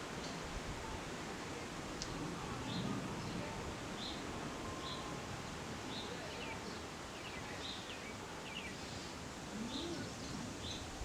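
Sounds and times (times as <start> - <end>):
steady wind: 0.0 - 11.0.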